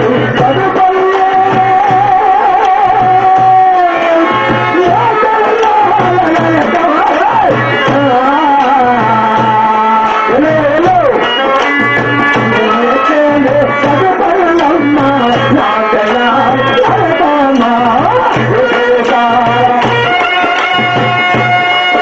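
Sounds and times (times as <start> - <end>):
drum beating steady rhythm: 0.0 - 22.0.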